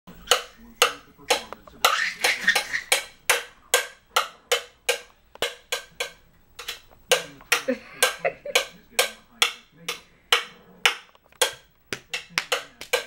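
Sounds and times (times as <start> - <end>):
metal spoon banging a bowl: 0.2 - 13.0.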